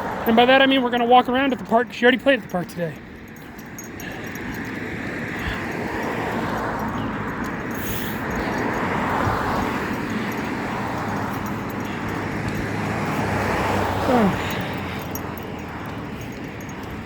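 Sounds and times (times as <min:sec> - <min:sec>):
car tyre noise passing: 0:02.9 - 0:17.0.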